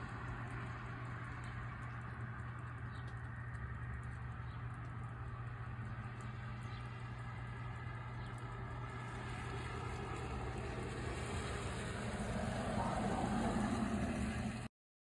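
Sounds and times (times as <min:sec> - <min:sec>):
vehicle engine humming: 0:00.0 - 0:14.7.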